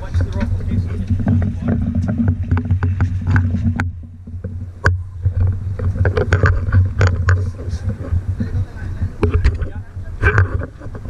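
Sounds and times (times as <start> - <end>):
knocks and clatter: 0.0 - 11.0
outboard motor idling: 0.0 - 11.0.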